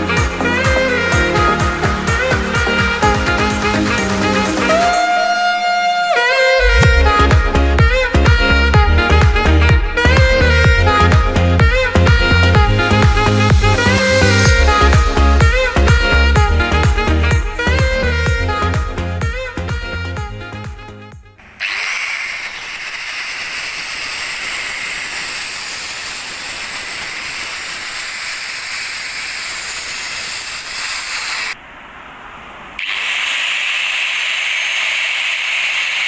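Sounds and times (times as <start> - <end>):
angle grinder high whine: 0.0 - 19.8, 21.4 - 36.0.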